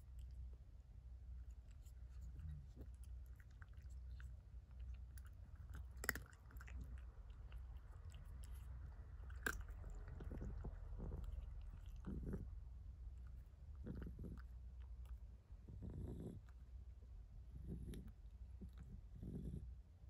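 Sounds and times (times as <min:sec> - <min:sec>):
cat chewing and licking: 0:00.0 - 0:19.8.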